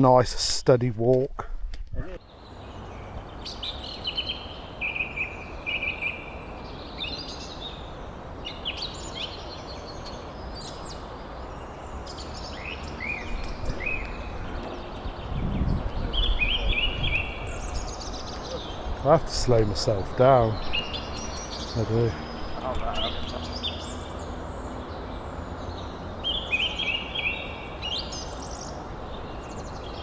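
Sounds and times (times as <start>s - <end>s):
steady outdoor hiss: 0.0s - 30.0s
songbirds chirping and singing: 2.2s - 30.0s.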